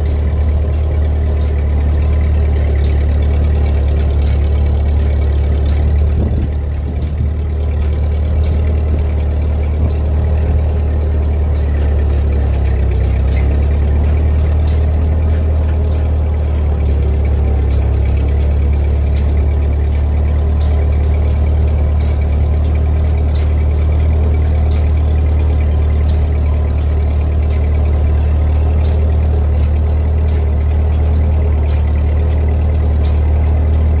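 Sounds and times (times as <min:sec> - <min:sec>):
rake rattling and clicking: 0:00.0 - 0:34.0
tractor engine humming: 0:00.0 - 0:34.0.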